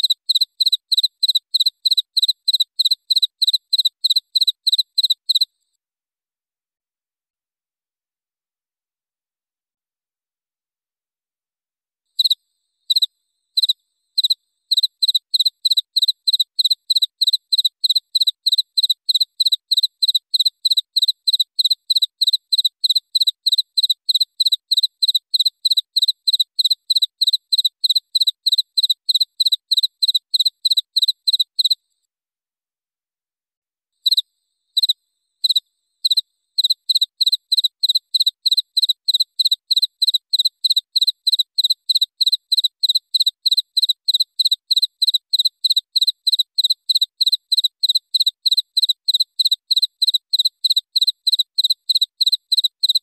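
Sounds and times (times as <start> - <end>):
cricket chirping: 0.0 - 5.5, 12.2 - 31.8, 34.0 - 53.0.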